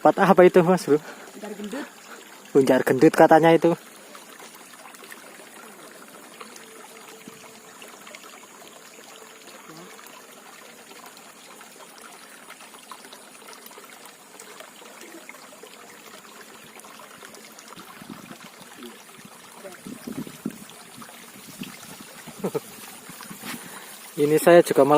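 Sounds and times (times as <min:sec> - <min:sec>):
water trickling and pouring: 0:00.0 - 0:24.9.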